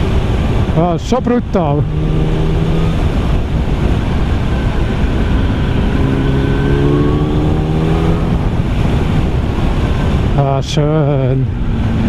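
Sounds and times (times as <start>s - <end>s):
wind rush over microphone: 0.0s - 10.4s
motorcycle engine running: 0.0s - 12.0s.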